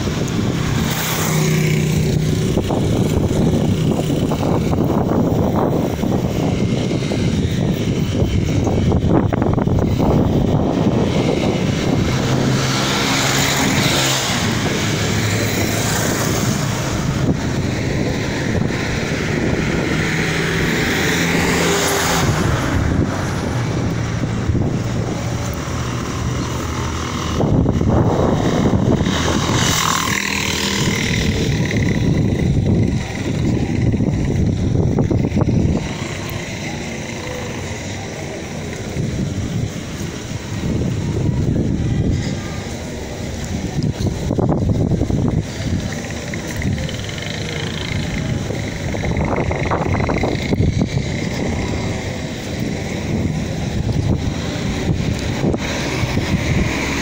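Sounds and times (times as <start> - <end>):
steady traffic hum: 0.0 - 57.0
vehicles passing: 0.0 - 57.0.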